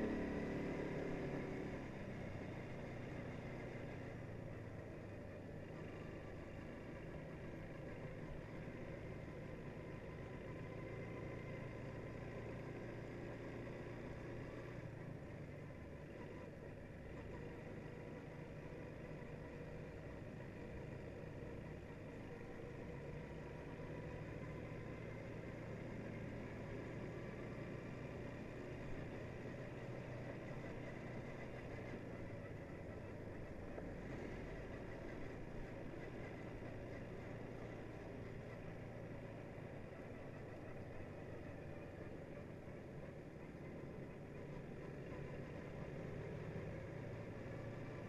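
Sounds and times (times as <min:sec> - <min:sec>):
quad bike engine running: 0:00.0 - 0:48.0.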